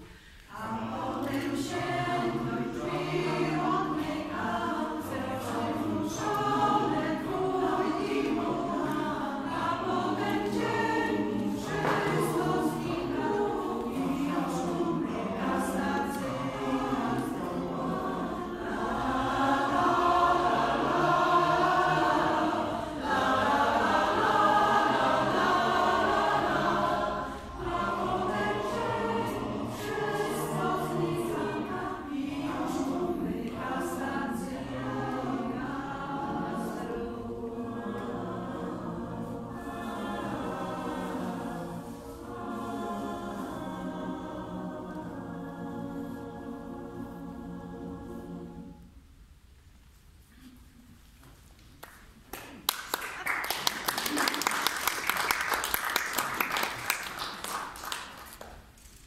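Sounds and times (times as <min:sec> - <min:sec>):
mixed choir singing a cappella: 0:00.0 - 0:49.2, 0:52.8 - 0:58.5.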